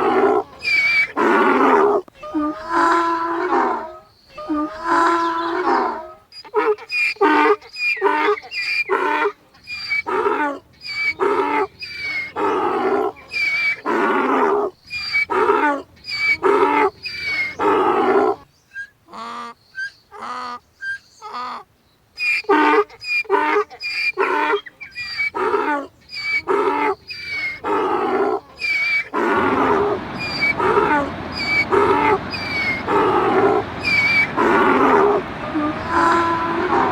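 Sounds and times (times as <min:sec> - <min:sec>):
donkey braying: 0:00.0 - 0:21.6, 0:22.2 - 0:36.9.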